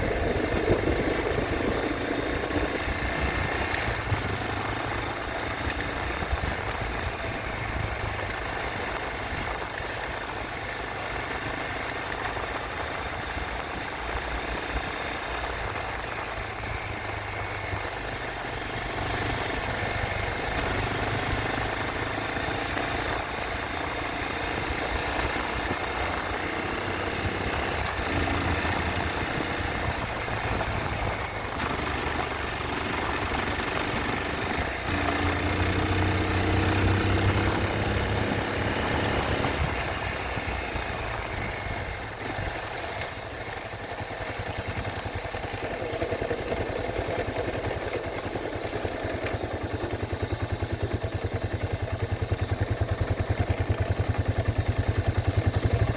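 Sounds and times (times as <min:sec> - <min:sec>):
continuous rushing noise: 0:00.0 - 0:55.9
motorcycle engine running: 0:00.0 - 0:55.9.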